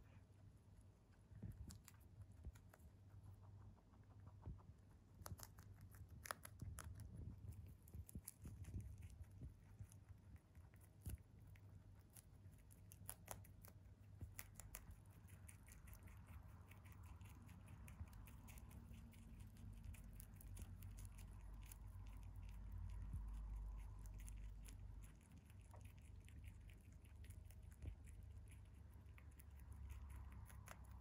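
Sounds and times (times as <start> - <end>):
low hum: 0.0 - 31.0
rabbit chewing greens: 0.0 - 31.0.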